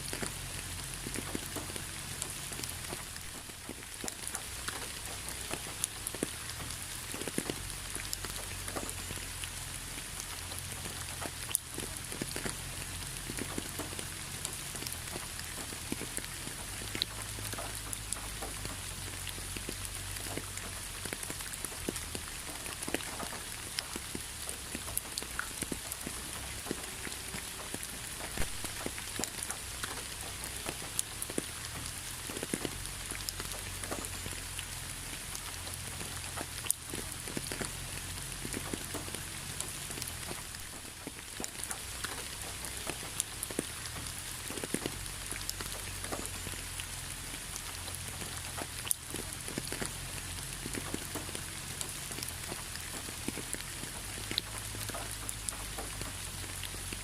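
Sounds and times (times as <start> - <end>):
hiss of falling rain: 0.0 - 57.0
raindrops ticking on a surface: 0.0 - 57.0.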